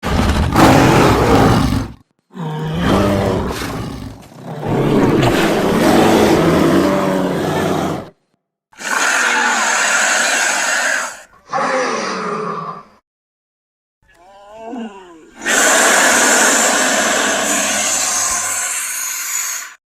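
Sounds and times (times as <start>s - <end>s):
creature roars and growls: 0.0s - 8.2s, 8.8s - 13.0s, 14.6s - 19.8s.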